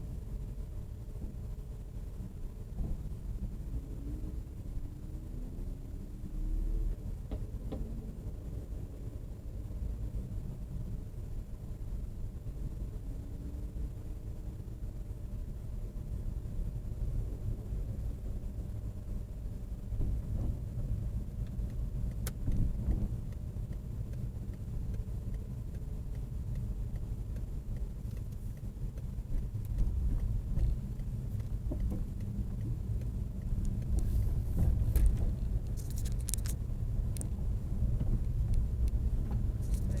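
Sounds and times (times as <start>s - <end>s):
car rumble: 0.0s - 40.0s.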